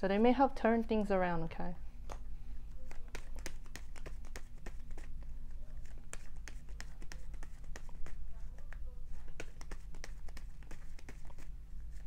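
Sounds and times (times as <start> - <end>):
steady low hum: 0.0 - 12.0
cards being shuffled: 2.0 - 12.0.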